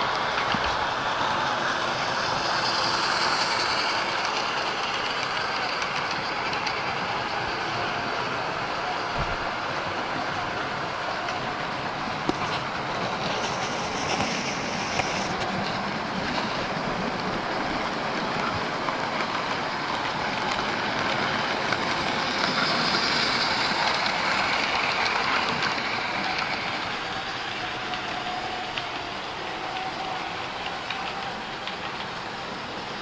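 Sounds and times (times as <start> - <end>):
model trains rolling: 0.0 - 33.0
wheels clicking on track: 0.0 - 33.0.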